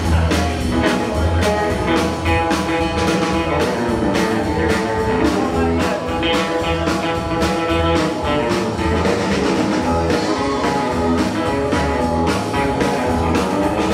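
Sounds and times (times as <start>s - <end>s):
bass guitar: 0.0s - 13.9s
drum kit beat: 0.0s - 13.9s
electric guitar: 0.0s - 13.9s.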